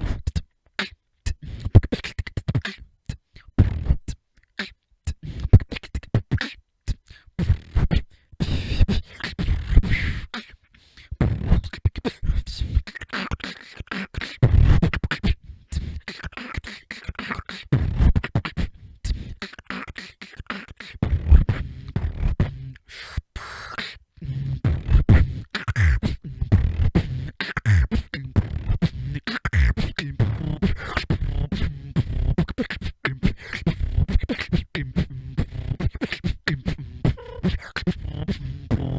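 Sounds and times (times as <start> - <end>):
person beatboxing: 0.0 - 38.9.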